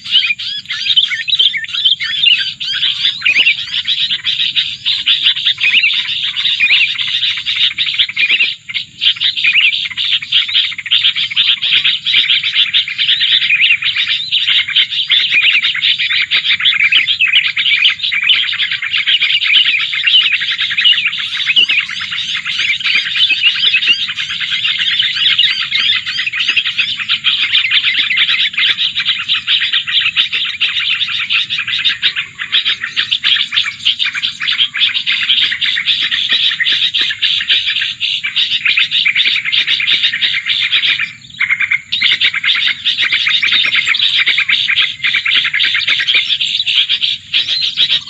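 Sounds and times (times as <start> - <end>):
birds chirping rapidly: 0.0 - 48.0.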